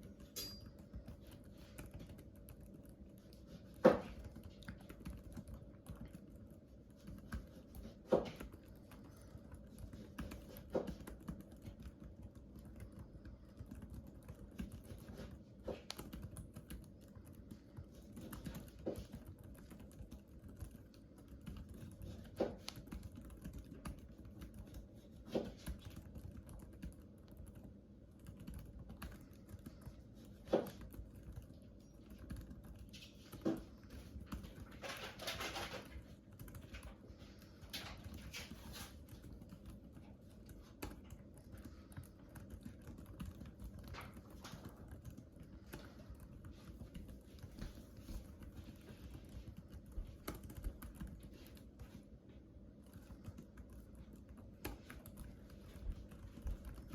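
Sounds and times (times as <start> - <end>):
typing on computer keyboard: 0.0 - 56.9.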